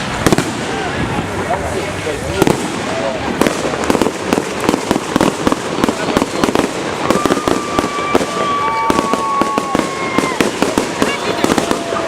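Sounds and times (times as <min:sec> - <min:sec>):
fireworks crackling and popping: 0:00.0 - 0:12.0
firework whistles: 0:02.3 - 0:12.0.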